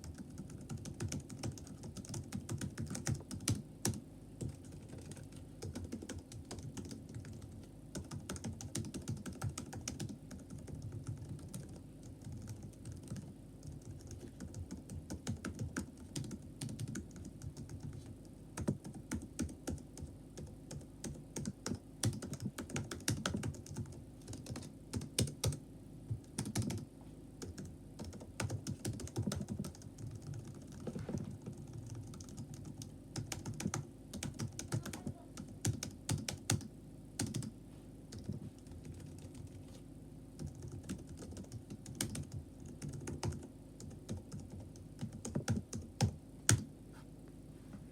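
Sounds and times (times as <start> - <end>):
laptop keyboard typing: 0.0 - 37.5, 38.1 - 39.8, 40.4 - 46.7.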